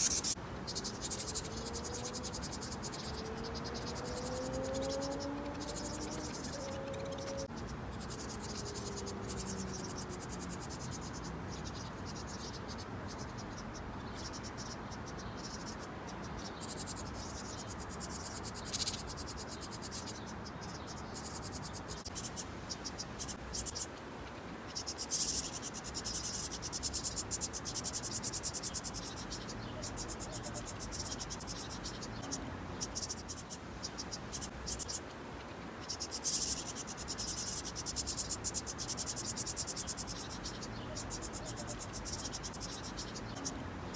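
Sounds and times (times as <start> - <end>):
insects trilling: 0.0 - 13.6, 16.6 - 20.2, 24.8 - 35.0, 35.8 - 43.9
steady background hiss: 0.0 - 43.9.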